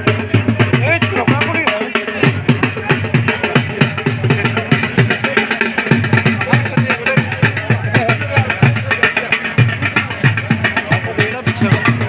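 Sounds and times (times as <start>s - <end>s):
drum beaten in quick rhythm: 0.0s - 12.0s
large crowd noise: 0.0s - 12.0s.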